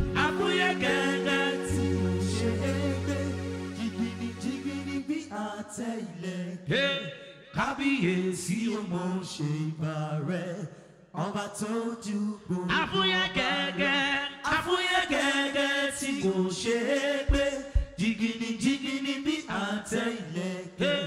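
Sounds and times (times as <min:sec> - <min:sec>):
men singing into microphones: 0:00.0 - 0:21.0.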